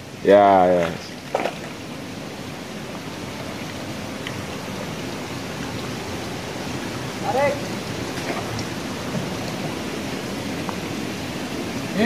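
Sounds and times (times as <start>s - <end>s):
steady hiss of water: 0.0s - 12.0s.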